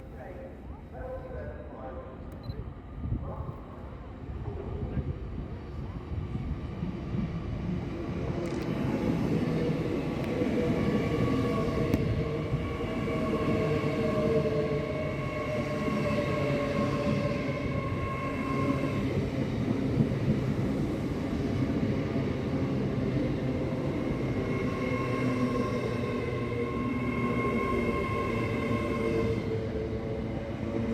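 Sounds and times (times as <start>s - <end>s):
train rumbling: 0.0s - 30.9s.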